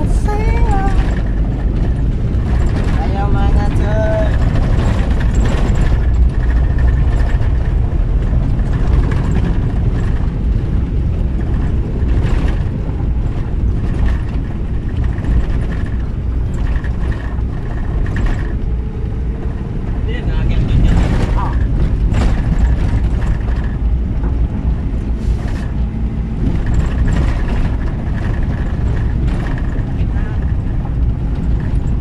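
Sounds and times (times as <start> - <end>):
engine and tyre rumble: 0.0 - 32.0
knocks and rattles: 0.0 - 32.0.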